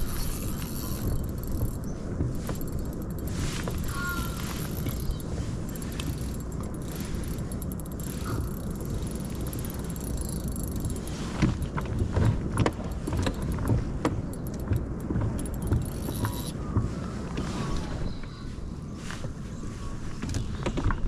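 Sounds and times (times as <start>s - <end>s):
fishing gear clicks and knocks: 0.0s - 18.3s, 20.1s - 21.0s
wind rumble on microphone: 0.0s - 21.0s.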